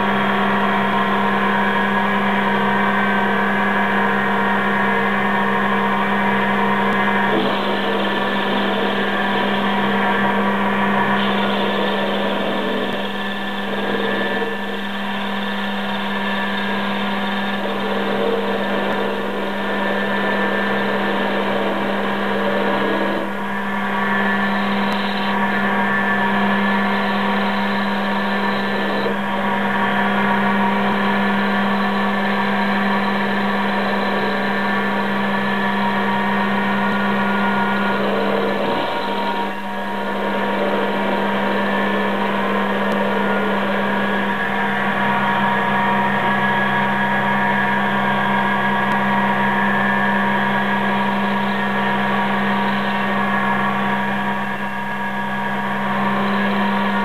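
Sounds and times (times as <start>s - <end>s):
lathe whining and humming: 0.0s - 57.0s.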